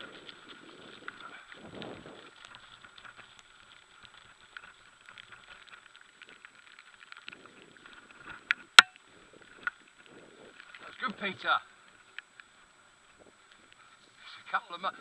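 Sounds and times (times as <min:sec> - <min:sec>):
bike rolling on gravel: 0:00.0 - 0:15.0.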